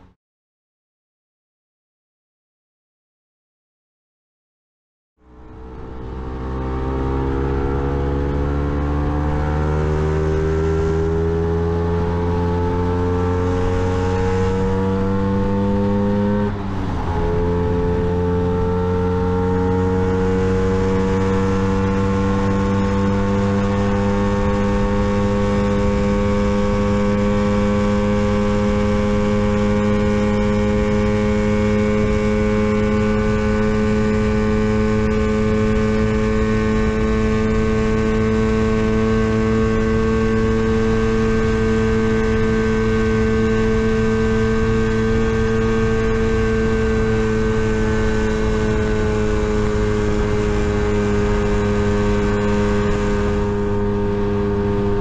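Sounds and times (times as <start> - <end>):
scooter engine accelerating: 5.3 - 55.0.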